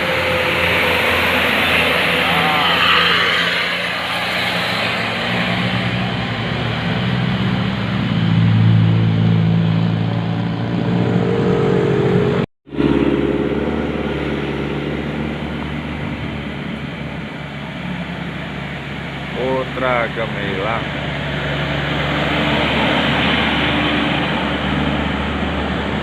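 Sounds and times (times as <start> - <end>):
bus engine passing: 0.0 - 26.0.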